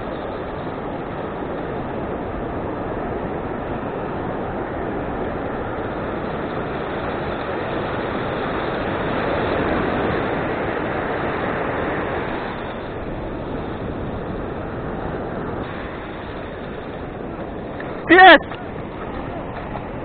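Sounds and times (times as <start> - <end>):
ocean surf washing on beach: 0.0 - 20.0.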